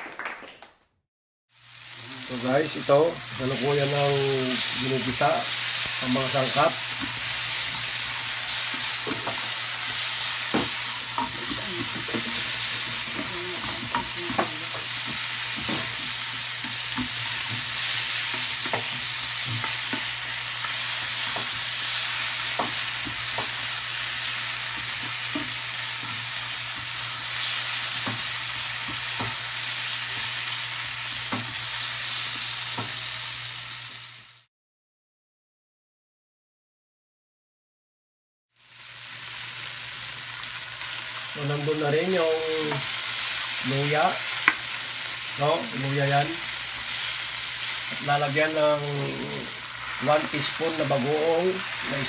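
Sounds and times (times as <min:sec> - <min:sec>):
vegetables sizzling in oil: 0:01.6 - 0:34.5, 0:38.6 - 0:52.0.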